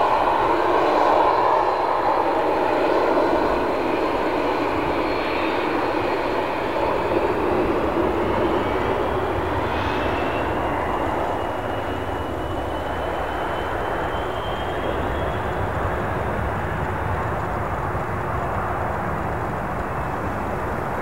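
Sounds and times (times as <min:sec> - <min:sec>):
jet engines roaring: 0:00.0 - 0:21.0
rising turbine whine: 0:00.0 - 0:21.0.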